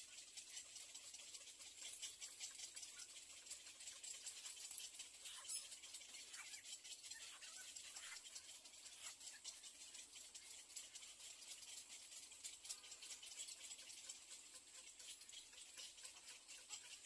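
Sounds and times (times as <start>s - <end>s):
soft ticks: 0.1s - 17.0s.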